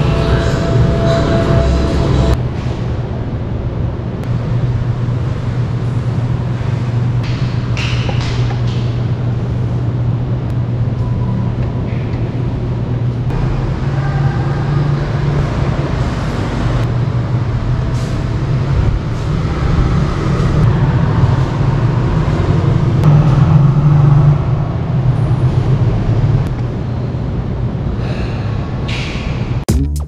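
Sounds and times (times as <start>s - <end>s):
low droning hum: 0.0s - 29.6s.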